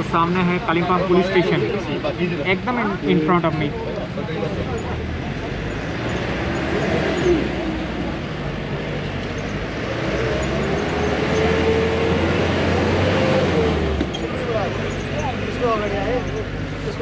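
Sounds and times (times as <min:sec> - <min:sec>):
bus engine running: 0:00.0 - 0:17.0
road noise: 0:00.0 - 0:17.0.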